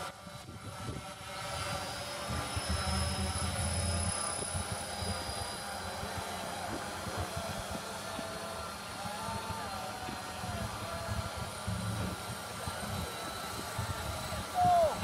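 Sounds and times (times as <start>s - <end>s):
quadcopter whirring: 0.0s - 15.0s
thin high whine: 0.0s - 15.0s.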